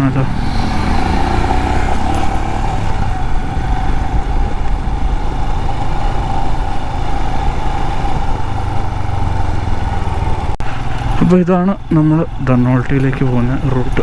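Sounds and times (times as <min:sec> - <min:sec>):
motorcycle engine running: 0:00.0 - 0:14.0
wind noise rumble: 0:00.0 - 0:14.0.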